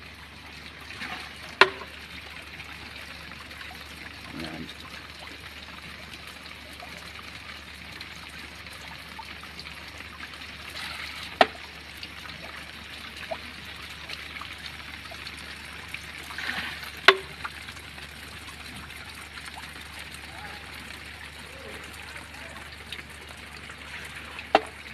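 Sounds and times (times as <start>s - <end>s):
water trickling: 0.0s - 24.9s.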